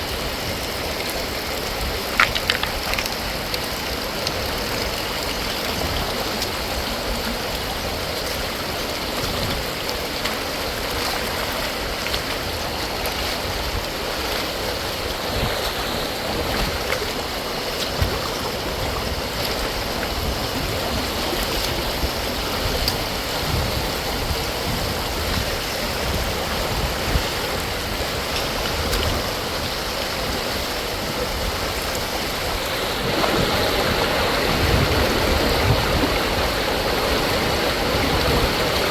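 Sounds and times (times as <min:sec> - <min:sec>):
heavy rain: 0:00.0 - 0:38.9
running rainwater: 0:00.0 - 0:38.9.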